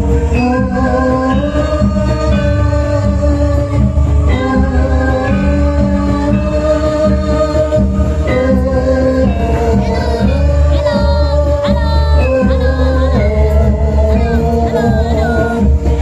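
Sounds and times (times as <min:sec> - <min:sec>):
loud live music: 0:00.0 - 0:16.0
person singing: 0:00.0 - 0:16.0.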